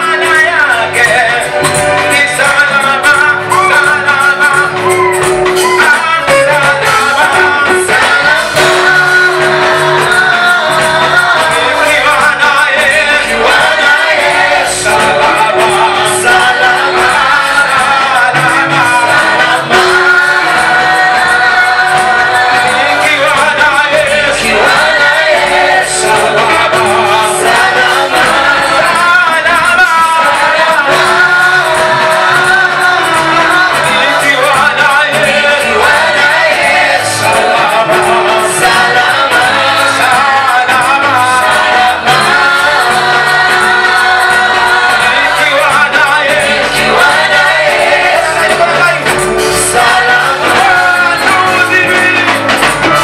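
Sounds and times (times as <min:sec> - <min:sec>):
group singing praise music: 0:00.0 - 0:53.0.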